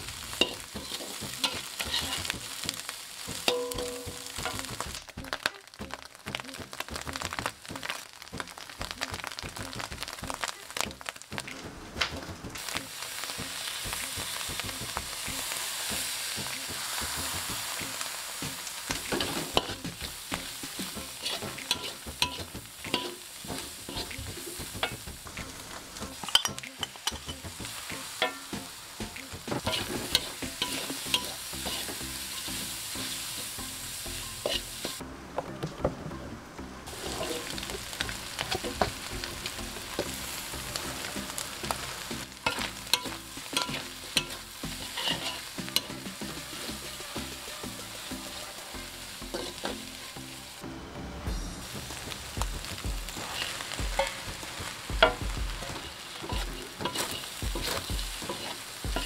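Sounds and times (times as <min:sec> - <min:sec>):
metal spatula scraping a wok: 0:00.0 - 0:05.0, 0:12.6 - 0:35.0, 0:36.9 - 0:50.5, 0:52.7 - 0:59.0
food sizzling in hot oil: 0:00.0 - 0:35.0, 0:36.8 - 0:50.7, 0:51.3 - 0:59.0.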